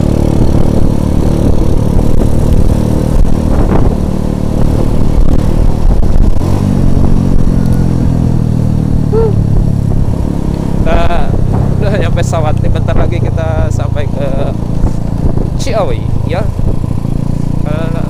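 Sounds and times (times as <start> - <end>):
wind rushing over microphone: 0.0 - 17.9
road noise: 0.0 - 18.0
small motorcycle engine running: 0.0 - 18.0.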